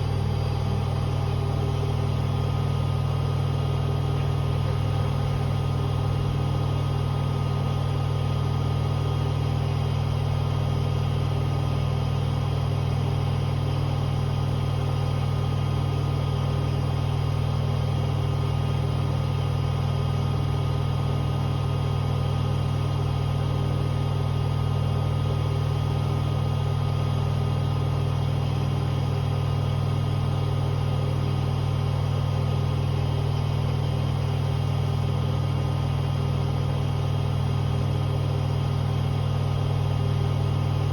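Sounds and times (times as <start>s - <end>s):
faint motor whine: 0.0s - 40.9s.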